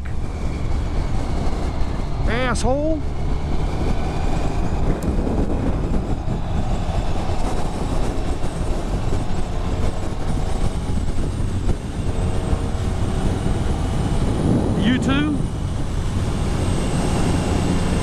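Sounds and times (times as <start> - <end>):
road rumble: 0.0 - 18.0
wind on microphone: 0.0 - 18.0.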